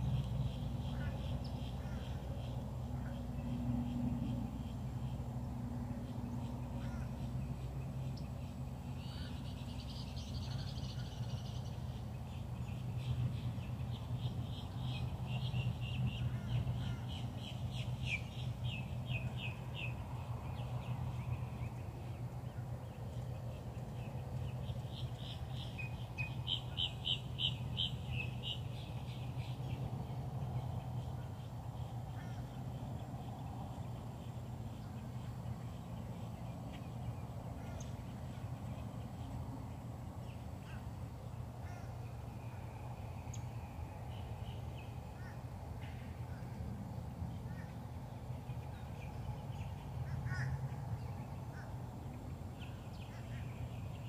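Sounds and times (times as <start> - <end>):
birds calling: 0.0 - 46.6, 47.3 - 54.0
steady low hum: 0.0 - 54.0.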